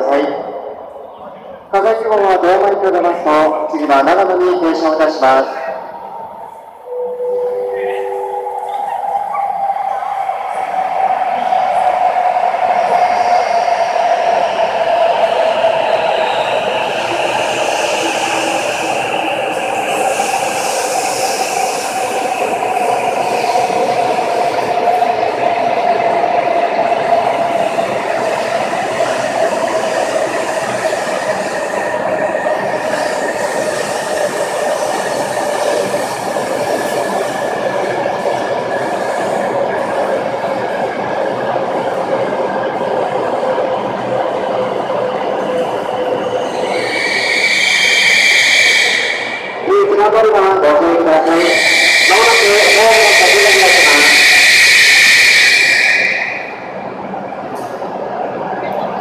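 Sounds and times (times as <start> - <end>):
train slowing with falling whine: 5.6 - 49.8, 51.2 - 59.0.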